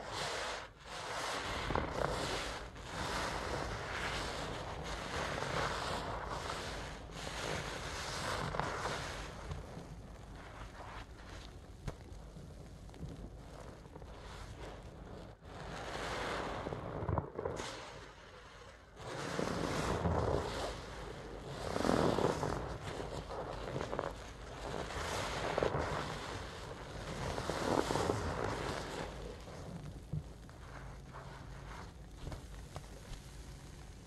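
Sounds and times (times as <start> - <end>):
foam crackling: 0.0 - 34.0
soapy sponge squelching: 0.1 - 11.5, 13.0 - 18.0, 19.0 - 33.1.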